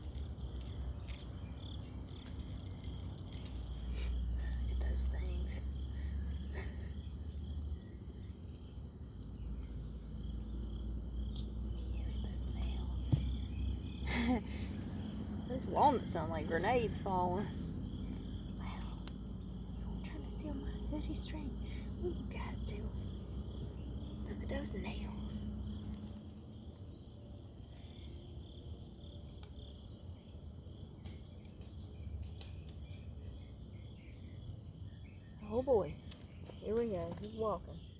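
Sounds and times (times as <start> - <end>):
crickets trilling: 0.0 - 37.9
high-pitched insect call: 0.0 - 37.9.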